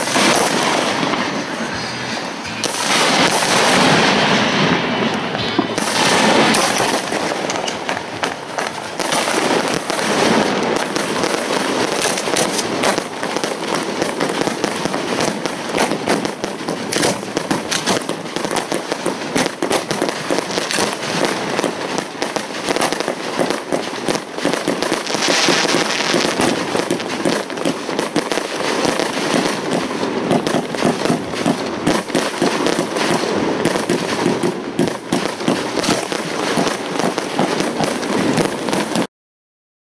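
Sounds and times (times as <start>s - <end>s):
fireworks bangs and crackling: 0.0s - 39.1s.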